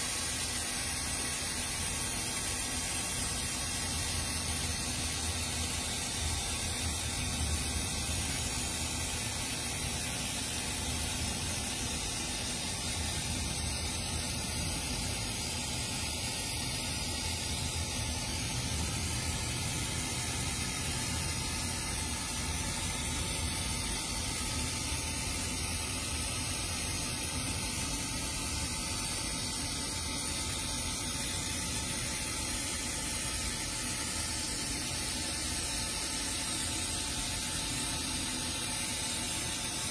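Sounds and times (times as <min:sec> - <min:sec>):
laser marking machine hissing: 0:00.0 - 0:39.9.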